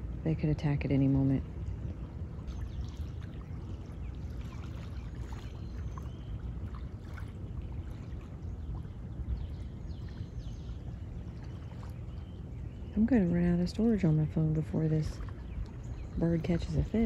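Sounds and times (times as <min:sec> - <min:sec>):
gentle water on shore: 0:00.0 - 0:17.0
wind rumble: 0:00.0 - 0:17.0.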